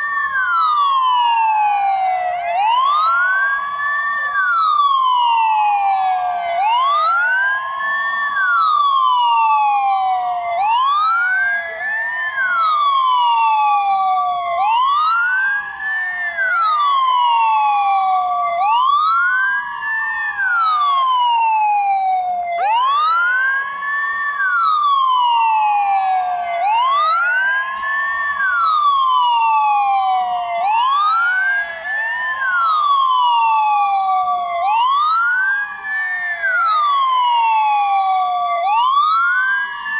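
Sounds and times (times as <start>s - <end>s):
ambulance siren wailing: 0.0s - 39.9s
steady siren tone: 0.0s - 39.9s.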